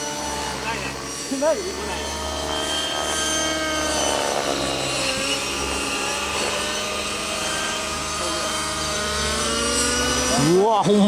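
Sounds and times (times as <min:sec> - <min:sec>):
helicopter rotor: 0:00.0 - 0:11.0
model helicopter engine at high revs: 0:00.0 - 0:11.0.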